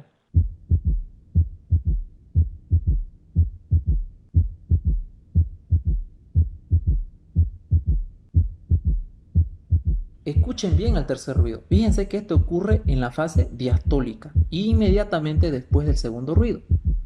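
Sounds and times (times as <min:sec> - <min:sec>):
heartbeat with gallop rhythm: 0:00.3 - 0:17.0.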